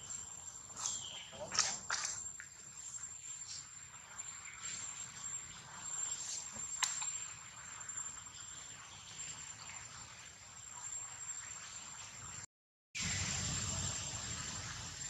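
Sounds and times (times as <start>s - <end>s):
steady high-pitched whine: 0.0s - 12.1s.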